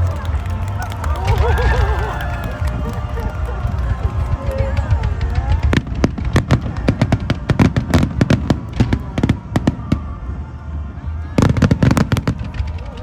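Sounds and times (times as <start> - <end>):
crowd voices: 0.0 - 13.0
fireworks bangs and crackles: 0.0 - 13.0.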